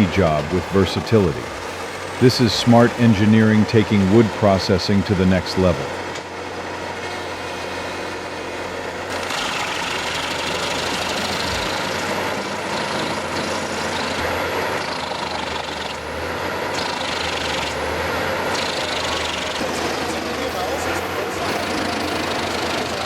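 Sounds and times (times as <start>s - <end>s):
diesel engine hum: 0.0s - 23.0s
wood chipper running: 0.0s - 23.0s.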